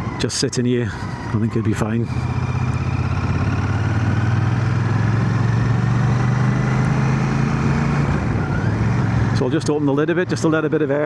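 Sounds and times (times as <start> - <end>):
motorcycle engine low hum: 0.0 - 11.0.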